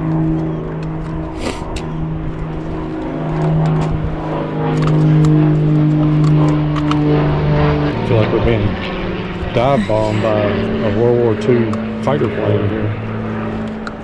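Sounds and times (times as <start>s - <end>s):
loud droning hum: 0.0s - 14.0s.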